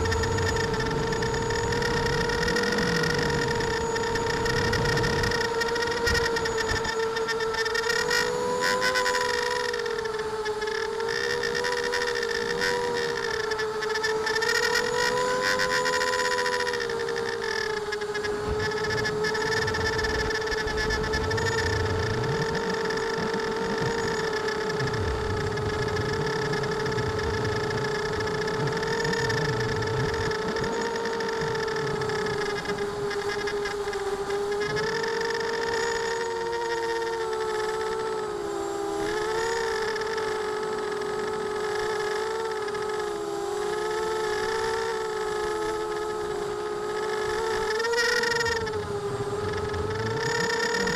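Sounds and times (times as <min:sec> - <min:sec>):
quadcopter motors whining: 0:00.0 - 0:50.9.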